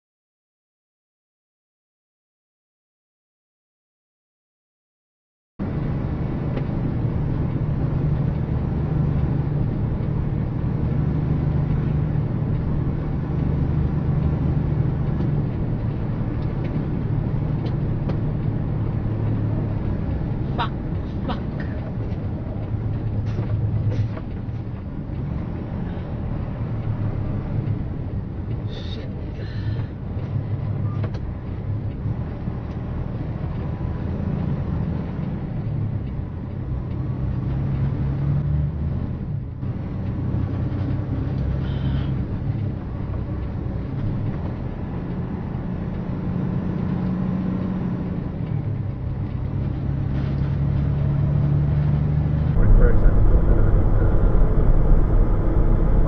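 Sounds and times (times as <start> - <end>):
vehicle engine and road noise: 5.6 - 56.0.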